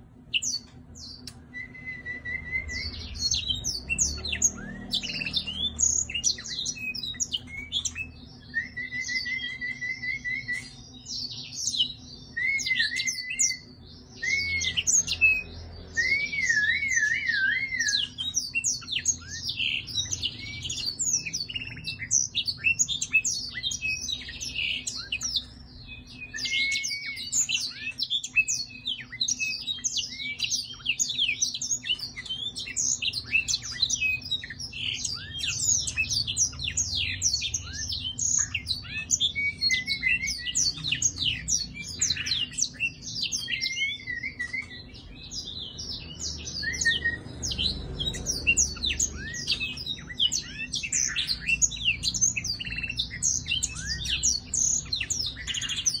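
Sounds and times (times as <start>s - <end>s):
songbird twittering song: 0.0s - 56.0s.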